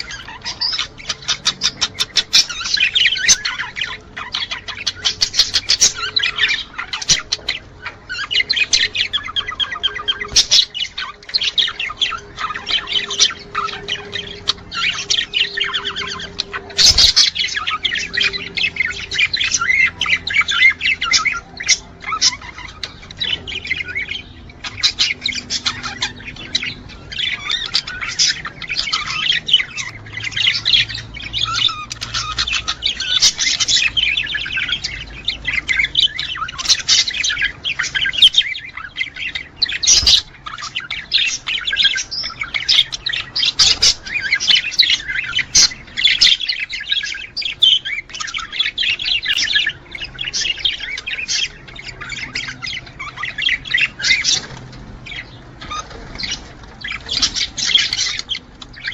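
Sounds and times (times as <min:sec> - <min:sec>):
budgerigars warbling and chattering: 0:00.0 - 0:58.9.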